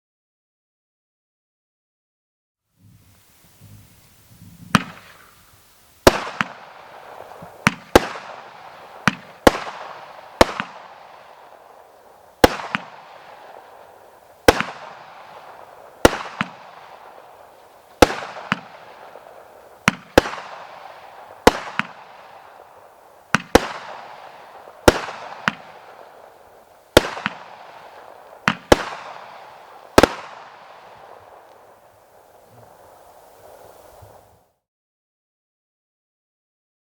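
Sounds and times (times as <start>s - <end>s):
fireworks sharp bangs: 2.8s - 34.4s.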